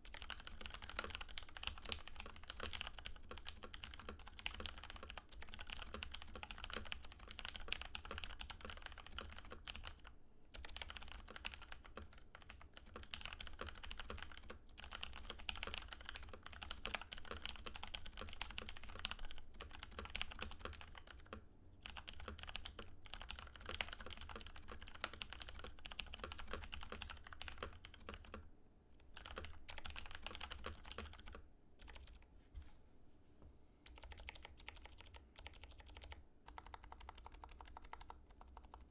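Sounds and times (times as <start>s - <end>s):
typing on mechanical keyboard: 0.0s - 28.4s, 29.1s - 32.2s, 33.8s - 38.9s.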